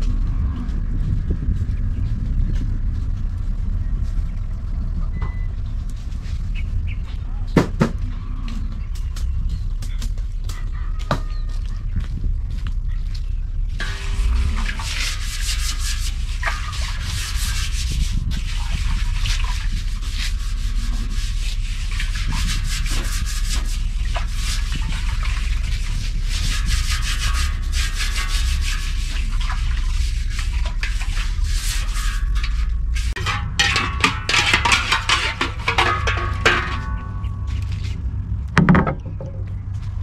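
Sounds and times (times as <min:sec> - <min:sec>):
rough rubbing and scraping: 0:00.0 - 0:40.0
steady low rumble: 0:00.0 - 0:40.0.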